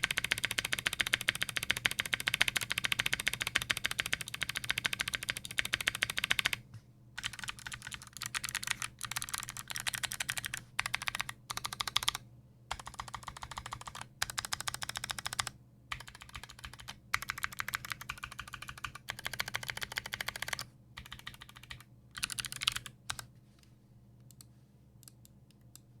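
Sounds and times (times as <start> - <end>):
mechanical keyboard typing: 0.0 - 6.6, 7.2 - 23.3.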